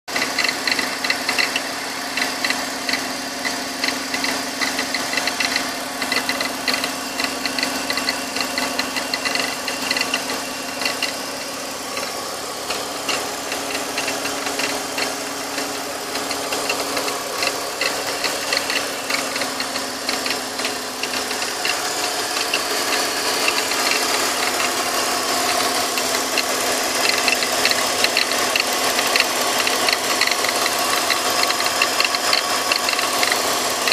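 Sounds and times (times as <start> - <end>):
fast engine ticking: 0.1 - 33.9
car engine gurgling: 0.2 - 33.9.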